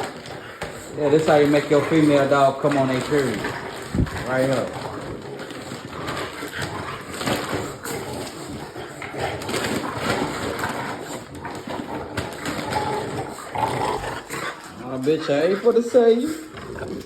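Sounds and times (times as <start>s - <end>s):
dogs scuffling: 0.0s - 17.0s.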